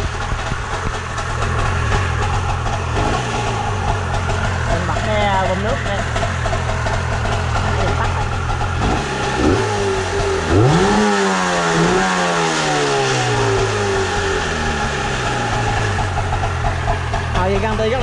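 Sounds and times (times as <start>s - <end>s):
engine revving: 0.0s - 18.0s
two-stroke engine idling: 0.0s - 18.0s.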